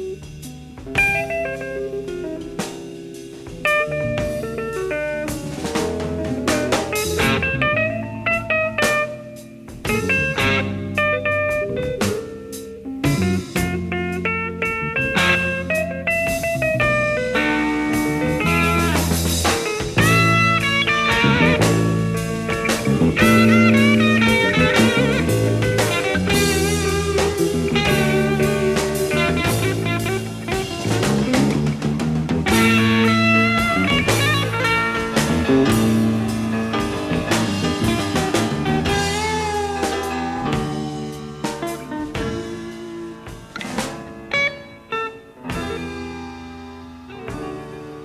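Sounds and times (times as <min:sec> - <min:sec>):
blues rock band playing: 0:00.0 - 0:48.0
electric guitar bending notes: 0:00.0 - 0:48.0.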